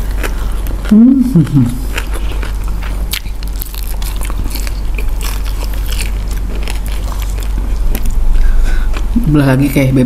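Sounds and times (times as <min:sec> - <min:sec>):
chewing and crunching: 0:00.0 - 0:09.8
low hum: 0:00.0 - 0:10.0.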